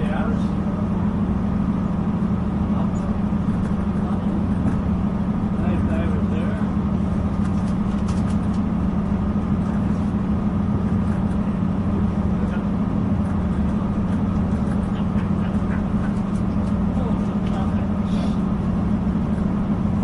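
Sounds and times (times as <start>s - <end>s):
train interior drone and rumble: 0.0s - 20.0s.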